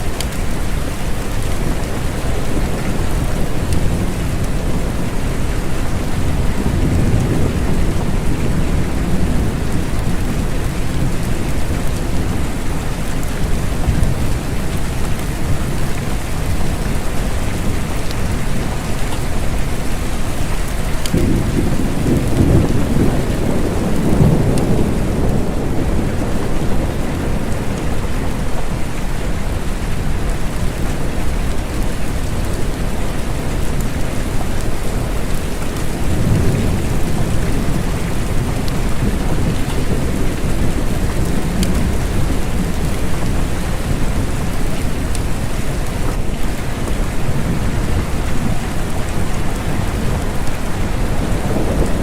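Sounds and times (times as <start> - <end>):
steady rain: 0.0 - 52.0
thunder rumbling: 0.3 - 52.0.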